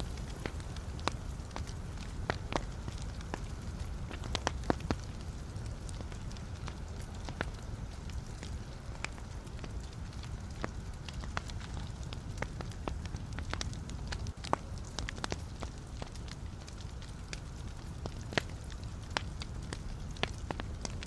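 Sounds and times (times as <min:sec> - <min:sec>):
burning logs crackling and popping: 0:00.0 - 0:21.0
wood fire low rumble: 0:00.0 - 0:21.0.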